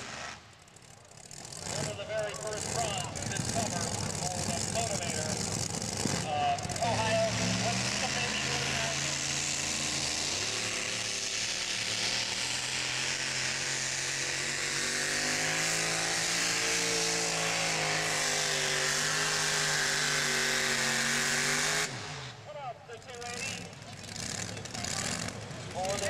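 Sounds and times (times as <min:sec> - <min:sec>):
truck engine at full throttle: 0:00.0 - 0:26.0.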